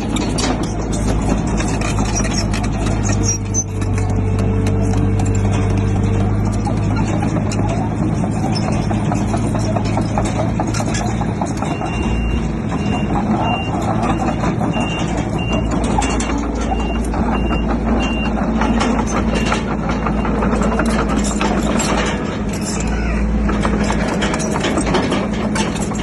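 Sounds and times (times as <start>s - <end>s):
clanks and rattles: 0.0s - 26.0s
diesel engine rumble: 0.0s - 26.0s.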